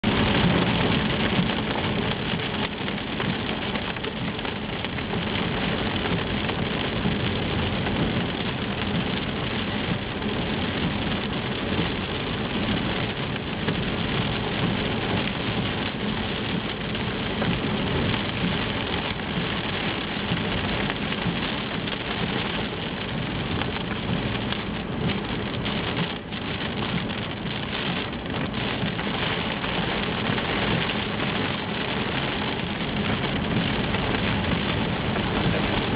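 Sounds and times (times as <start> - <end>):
rain falling and pattering: 0.0 - 35.9.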